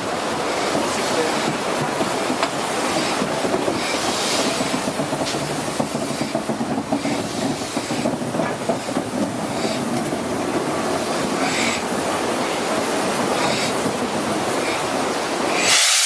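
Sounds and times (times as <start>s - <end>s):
train wheels clattering over rail joints: 0.0s - 16.0s.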